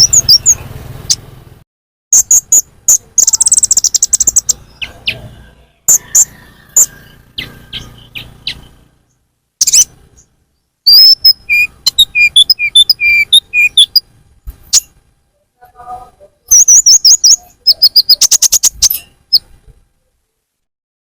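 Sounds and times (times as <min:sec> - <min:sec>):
bird chips and twittering: 0:00.0 - 0:01.3, 0:02.1 - 0:15.0, 0:16.4 - 0:19.6.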